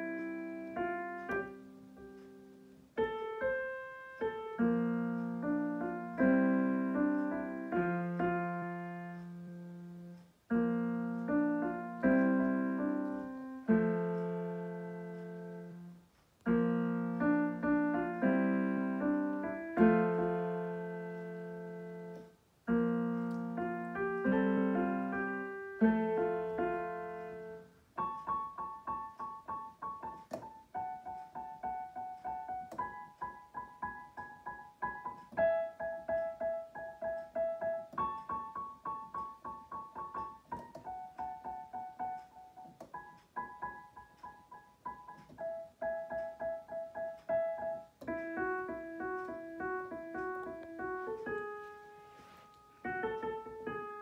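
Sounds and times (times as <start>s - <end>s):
digital piano playing: 0.0s - 54.0s.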